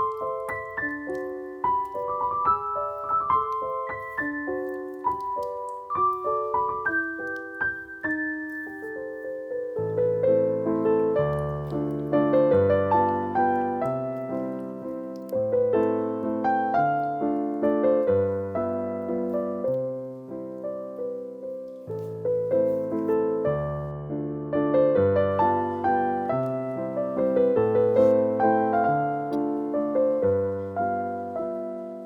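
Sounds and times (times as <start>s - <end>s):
gentle piano music: 0.0s - 32.0s.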